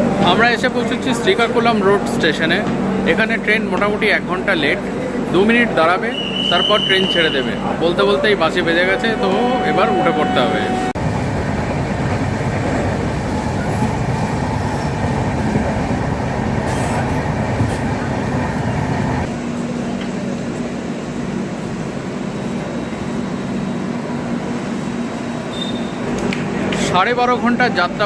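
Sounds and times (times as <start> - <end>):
train running on rails: 0.0 - 28.0.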